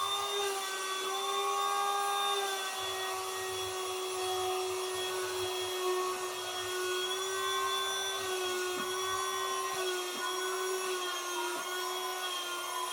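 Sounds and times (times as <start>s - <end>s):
electric motor humming: 0.0s - 12.9s.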